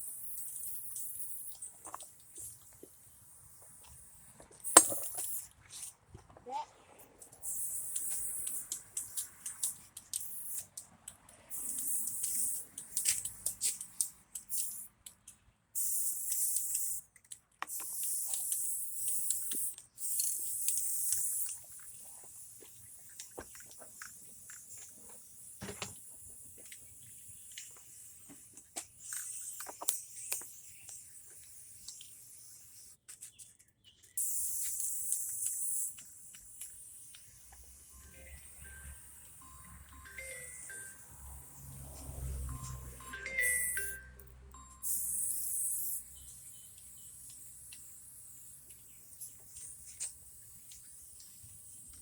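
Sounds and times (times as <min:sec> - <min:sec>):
spray paint can hissing: 0:00.0 - 0:05.9, 0:07.2 - 0:15.0, 0:15.7 - 0:33.1, 0:34.2 - 0:52.0.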